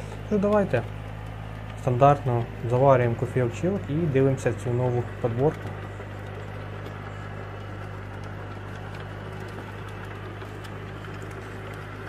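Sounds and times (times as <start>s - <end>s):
tiller churning soil: 0.0s - 12.0s
tractor engine running: 0.0s - 12.0s.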